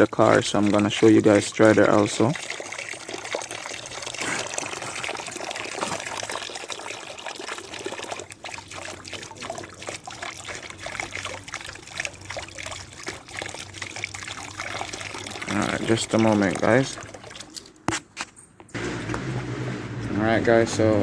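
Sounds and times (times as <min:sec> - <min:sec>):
water running from garden hose: 0:00.0 - 0:17.8.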